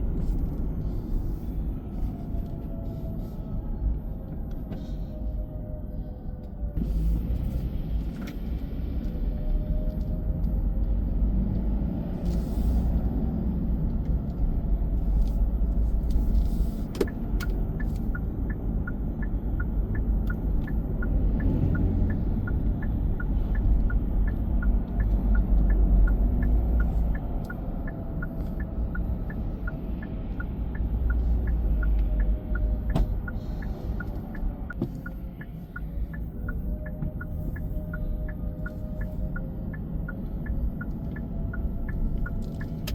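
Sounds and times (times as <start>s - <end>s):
car cabin road rumble: 0.0s - 42.9s.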